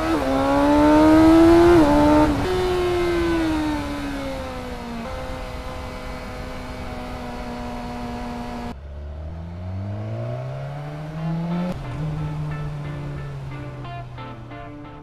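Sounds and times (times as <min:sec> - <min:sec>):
motorcycle engine revving: 0:00.0 - 0:14.5.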